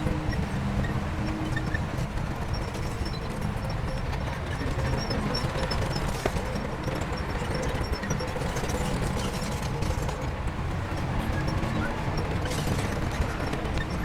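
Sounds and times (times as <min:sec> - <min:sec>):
diesel machinery engine rumble: 0:00.0 - 0:14.0.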